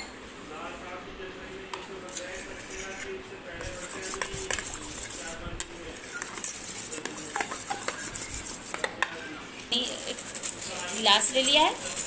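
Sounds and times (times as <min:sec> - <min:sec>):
utensil clinking and scraping bowl: 0:01.7 - 0:12.0
utensil stirring cream in bowl: 0:01.7 - 0:12.0.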